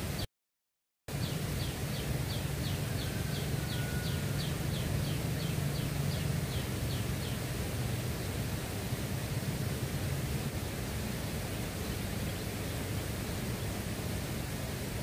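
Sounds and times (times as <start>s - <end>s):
outdoor hiss: 1.1s - 15.0s.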